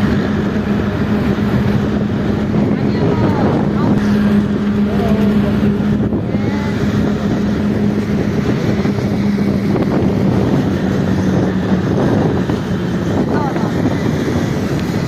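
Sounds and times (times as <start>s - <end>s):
bus engine drone: 0.0s - 15.0s
road and wind noise: 0.0s - 15.0s.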